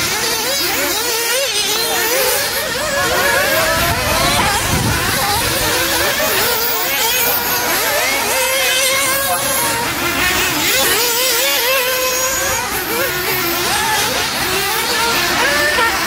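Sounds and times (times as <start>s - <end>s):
rc car engines whining: 0.0s - 16.0s.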